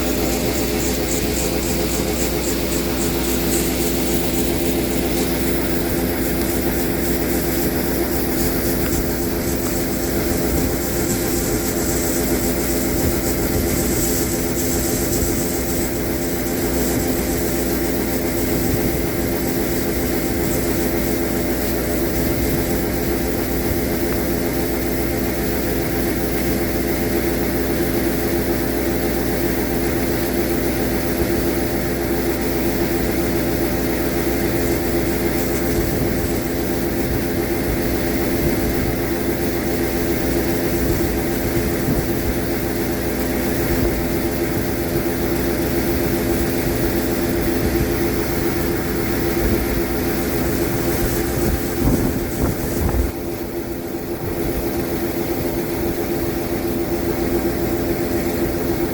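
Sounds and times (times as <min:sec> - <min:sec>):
combine harvester drone: 0:00.0 - 0:58.9.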